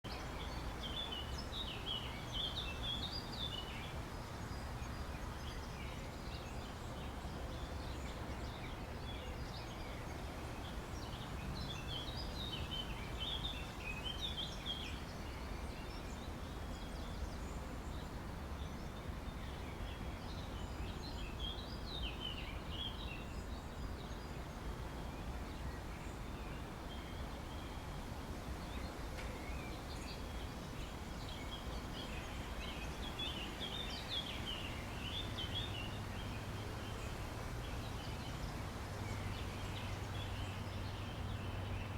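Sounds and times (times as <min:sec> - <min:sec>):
songbird chirping: 0:00.0 - 0:41.9.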